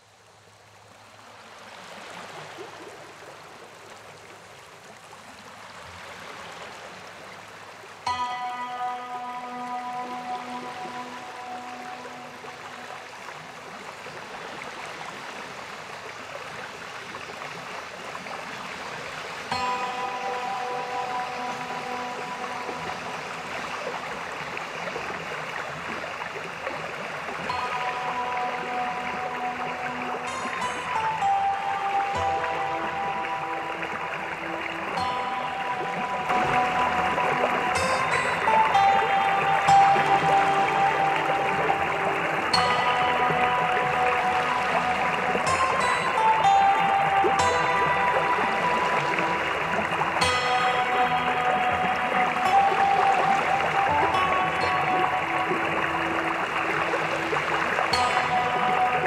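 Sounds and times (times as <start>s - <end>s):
water rushing over rocks: 0.0s - 59.0s
soft sustained music notes: 4.8s - 59.0s.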